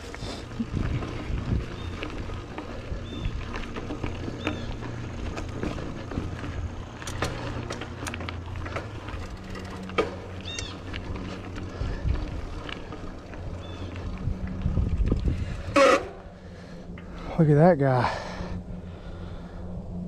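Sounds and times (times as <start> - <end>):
bike clicks and rattles: 0.0 - 20.0
bike tyres rumbling on dirt: 0.0 - 20.0.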